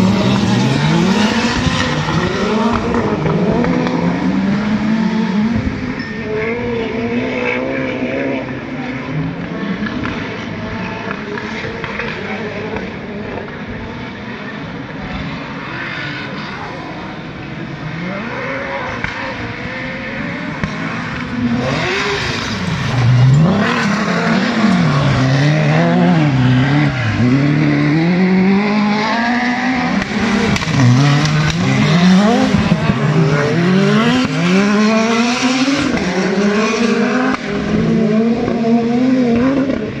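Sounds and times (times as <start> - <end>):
racing buggy engines revving: 0.0 - 40.0.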